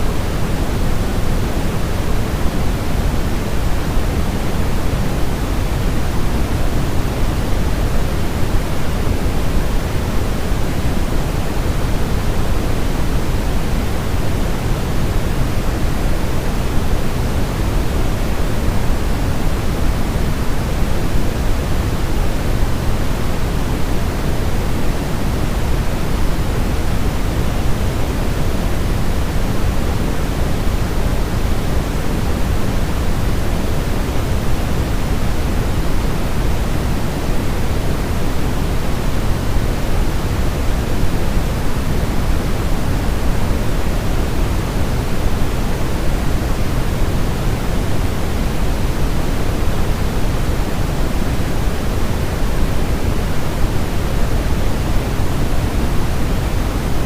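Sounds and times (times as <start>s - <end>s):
steady pink noise: 0.0s - 57.0s.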